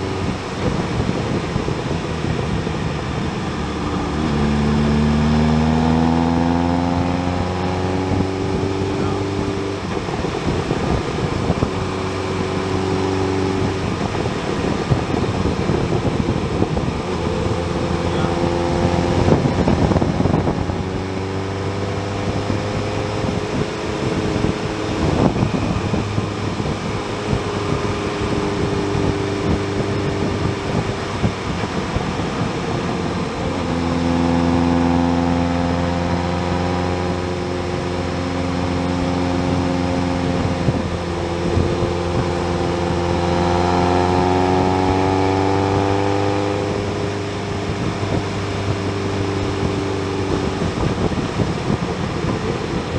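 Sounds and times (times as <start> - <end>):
motorcycle engine running: 0.0 - 52.9
wind noise: 0.0 - 52.9.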